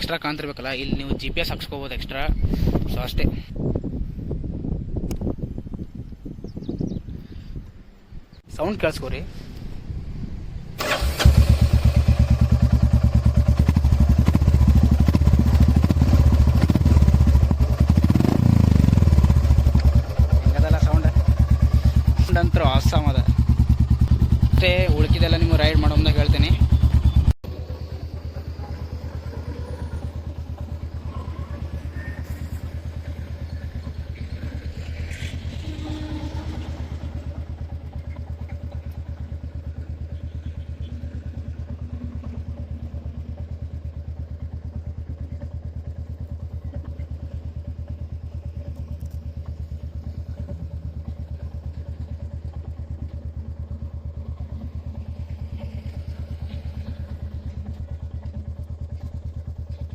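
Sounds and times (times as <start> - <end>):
motorcycle engine idling: 5.0 - 59.9.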